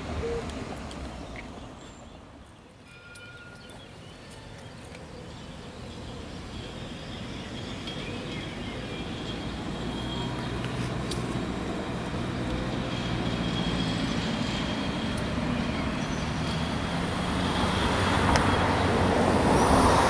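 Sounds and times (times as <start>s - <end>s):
outdoor background noise: 0.0s - 20.0s
tram rumble: 0.0s - 20.0s.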